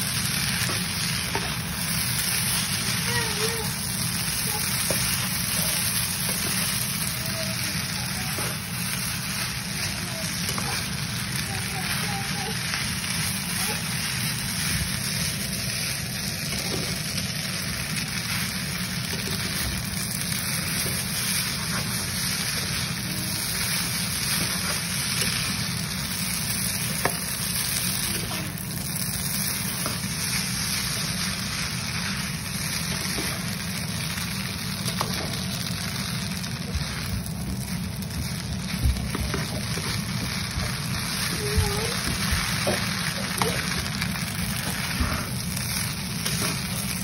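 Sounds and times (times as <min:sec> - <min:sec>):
noodles sizzling in a pan: 0:00.0 - 0:47.0.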